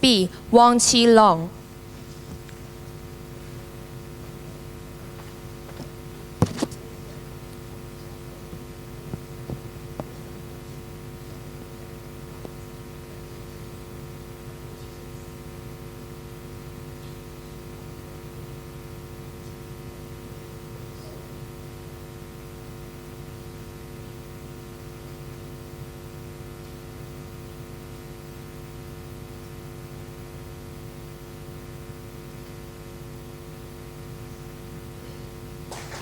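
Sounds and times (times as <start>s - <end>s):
electrical hum and hiss: 0.0s - 36.0s.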